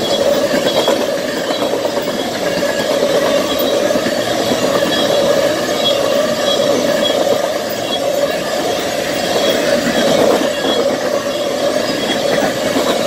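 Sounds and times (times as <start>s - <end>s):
high wheel squeaks: 0.0s - 13.0s
train wheels rumbling on rails: 0.0s - 13.0s.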